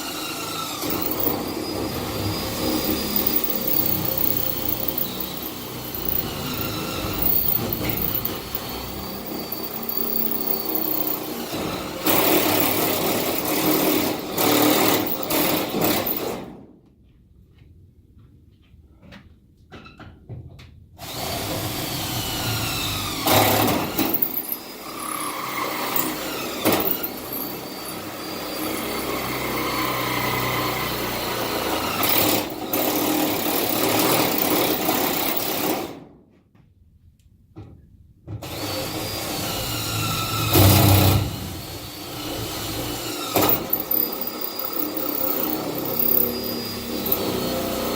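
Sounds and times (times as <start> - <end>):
power drill boring holes: 0.0 - 16.4, 21.0 - 36.0, 38.4 - 47.9.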